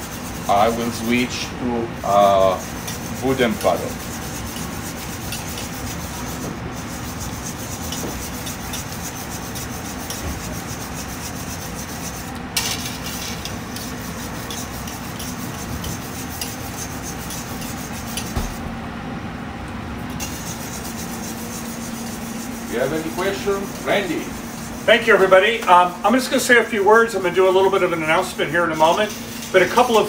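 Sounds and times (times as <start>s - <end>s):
wire whisk scraping metal pot: 0.0s - 1.5s, 2.1s - 18.4s, 20.1s - 25.4s, 26.4s - 30.0s.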